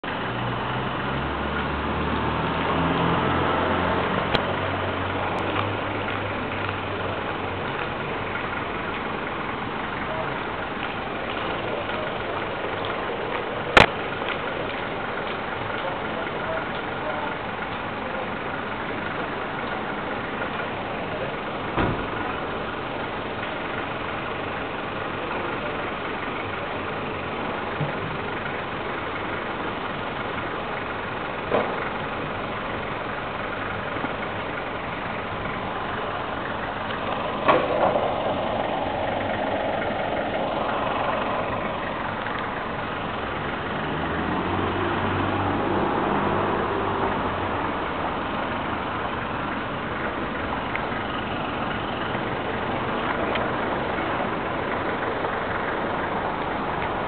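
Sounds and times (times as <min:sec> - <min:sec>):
loud low engine: 0:00.0 - 0:57.0
street traffic noise: 0:00.0 - 0:57.0.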